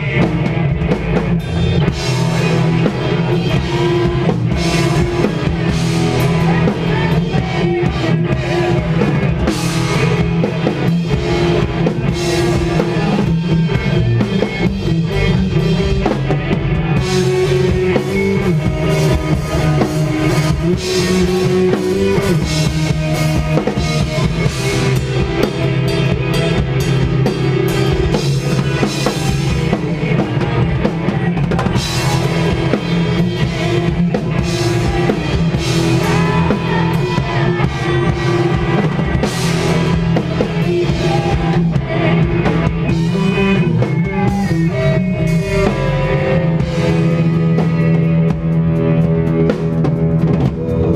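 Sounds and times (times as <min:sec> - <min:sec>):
drum kit: 0:00.0 - 0:50.9
metal band playing live: 0:00.0 - 0:50.9.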